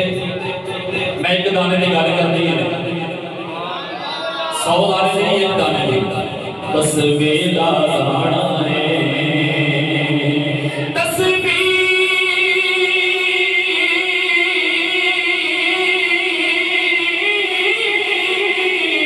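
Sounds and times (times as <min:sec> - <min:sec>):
man singing into microphone: 0:00.0 - 0:03.5, 0:04.5 - 0:19.0.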